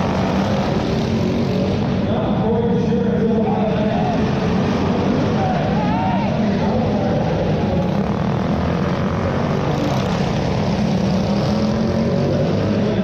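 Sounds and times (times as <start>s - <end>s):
small engine droning: 0.0s - 2.6s, 3.2s - 13.0s
other minibike engines: 0.0s - 13.0s.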